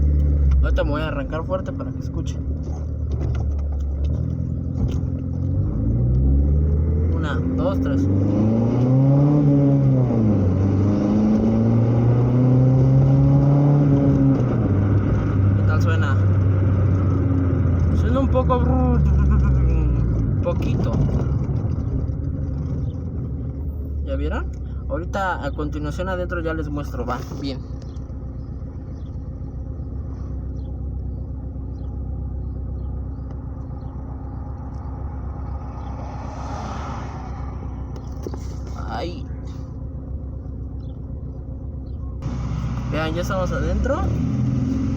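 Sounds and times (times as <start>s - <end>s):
car engine accelerating hard: 0.0s - 25.0s, 25.7s - 44.9s.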